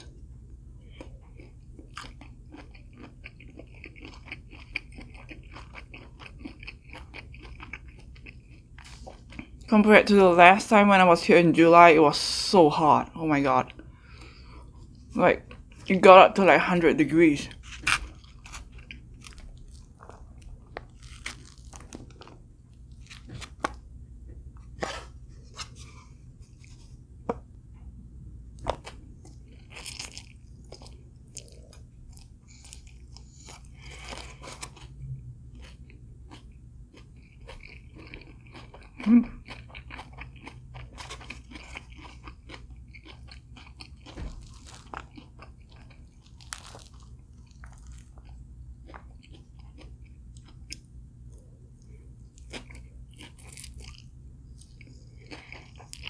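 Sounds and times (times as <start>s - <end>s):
person chewing and crunching food: 0.0s - 9.8s, 12.9s - 16.8s, 17.5s - 27.4s, 28.5s - 56.0s.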